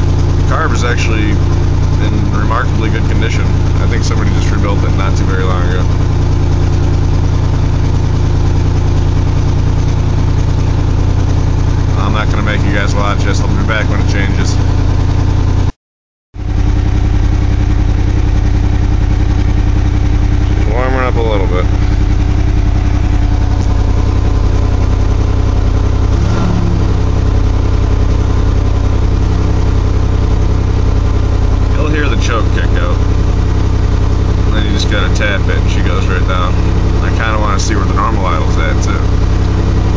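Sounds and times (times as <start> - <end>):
engine idling loudly: 0.0 - 15.7, 16.4 - 39.9
loud exhaust: 0.0 - 15.7, 16.4 - 39.9.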